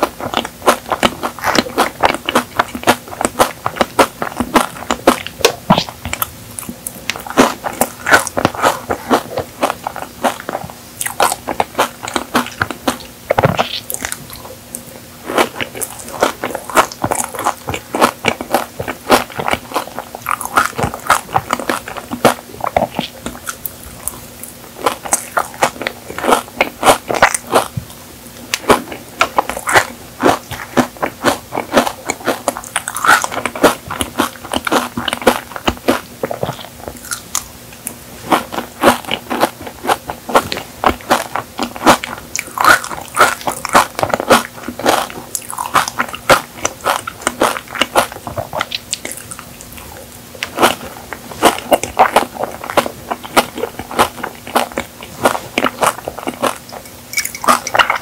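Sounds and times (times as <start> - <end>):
crunchy pastry chewing: 0.0 - 58.0.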